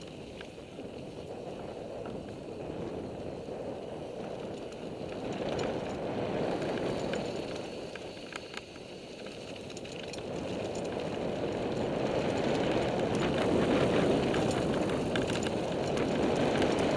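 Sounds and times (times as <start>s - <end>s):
wind rushing over microphone: 0.0s - 8.2s, 9.6s - 16.9s
faint gravel ticks: 0.0s - 16.9s.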